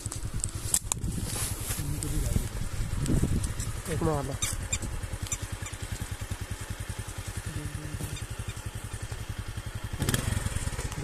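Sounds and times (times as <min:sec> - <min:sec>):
engine running with low thudding: 0:00.0 - 0:11.0.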